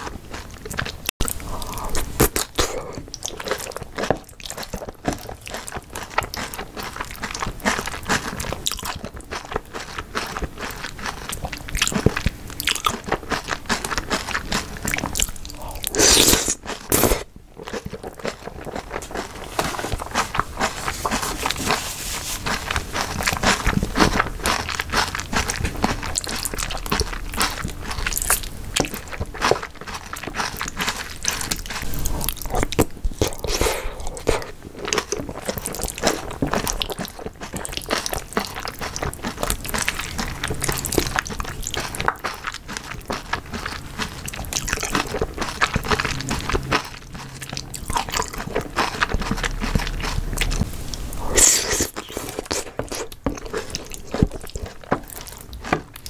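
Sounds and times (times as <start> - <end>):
chewing noodles: 0.0 - 56.0.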